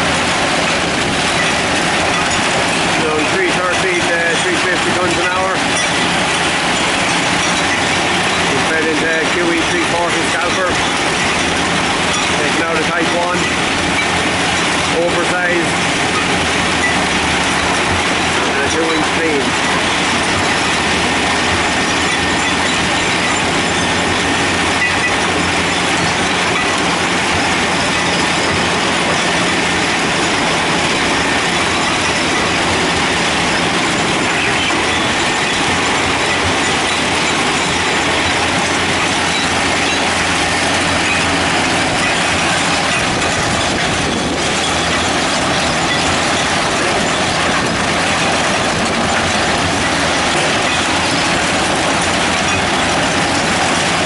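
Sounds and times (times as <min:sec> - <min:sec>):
diesel power pack: 0:00.0 - 0:54.0
stone pouring off conveyors: 0:00.0 - 0:54.0
vibrating screen clatter: 0:00.0 - 0:54.0.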